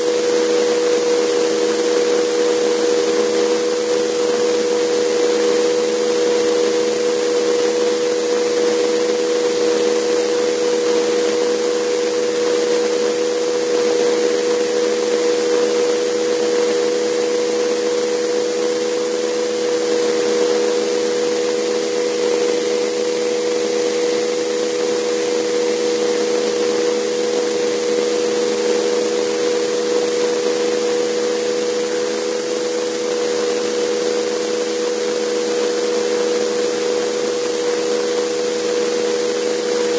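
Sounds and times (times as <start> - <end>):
model helicopter turbine running: 0.0 - 39.9.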